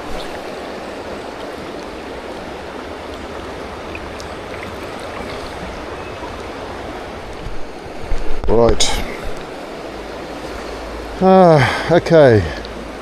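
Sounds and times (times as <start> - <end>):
river rushing over stones: 0.0 - 13.0.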